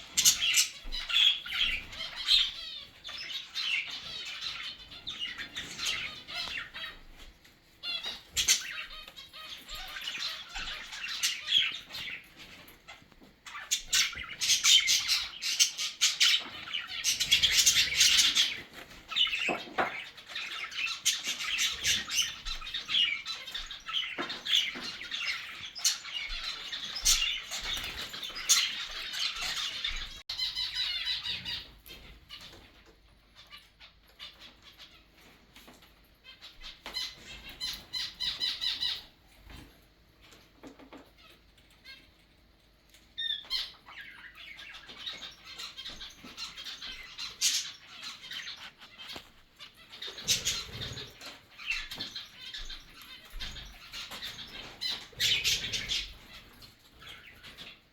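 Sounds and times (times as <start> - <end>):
birds chattering and squawking: 0.0 - 57.9.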